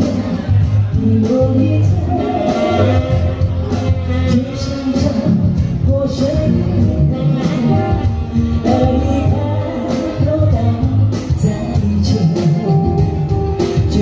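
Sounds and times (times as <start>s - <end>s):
live band backing with bass: 0.0s - 14.0s
woman singing into microphone: 0.0s - 14.0s.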